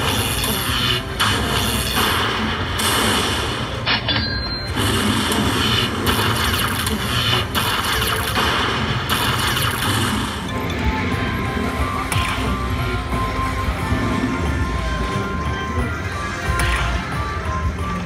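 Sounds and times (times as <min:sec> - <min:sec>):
electronic slot machine sounds: 0:00.0 - 0:18.0.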